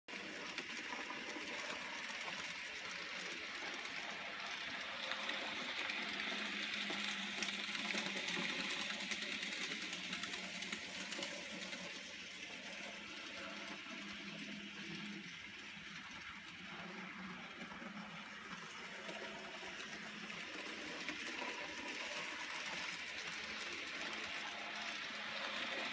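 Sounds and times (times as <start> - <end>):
model train motor whirring: 0.1 - 25.9
wheels ticking on rails: 0.1 - 25.9.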